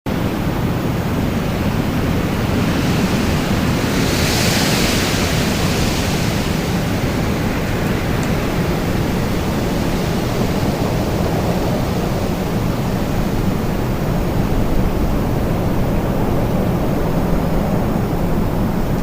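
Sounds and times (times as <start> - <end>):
wind blowing: 0.1 - 19.0.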